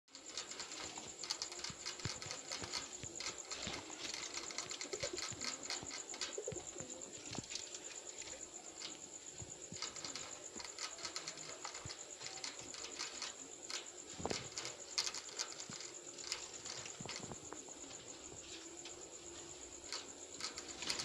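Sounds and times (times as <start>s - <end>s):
guinea pigs munching food: 0.1s - 21.0s
steady high-pitched whine: 0.1s - 21.0s.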